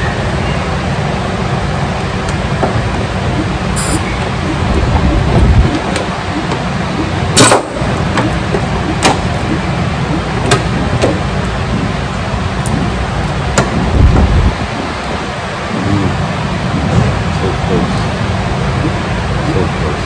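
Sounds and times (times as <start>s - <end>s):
steady low rumble: 0.8s - 20.0s.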